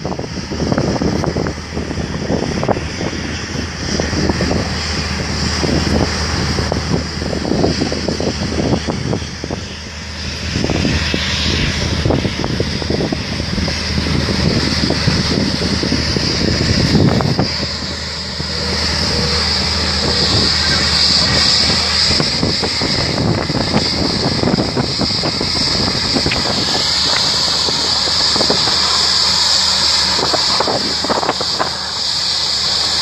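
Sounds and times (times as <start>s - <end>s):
jet engines whining: 0.0s - 33.0s
low hum: 0.0s - 33.0s
wind rumble on microphone: 0.0s - 33.0s.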